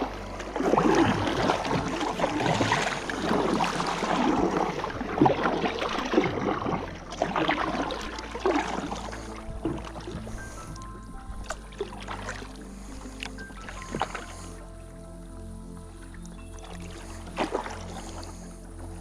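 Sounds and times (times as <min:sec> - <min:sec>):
paddle strokes splashing: 0:00.0 - 0:14.8, 0:15.9 - 0:19.0
water sloshing against hull: 0:00.0 - 0:19.0.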